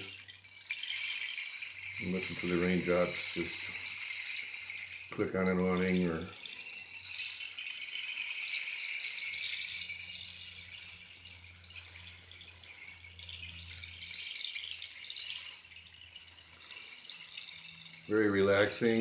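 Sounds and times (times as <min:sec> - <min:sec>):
rain stick rattling: 0:00.0 - 0:19.0.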